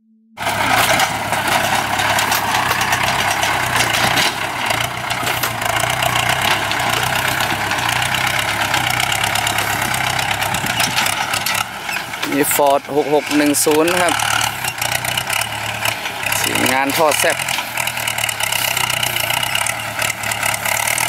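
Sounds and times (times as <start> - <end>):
tractor diesel engine running: 0.4 - 21.0.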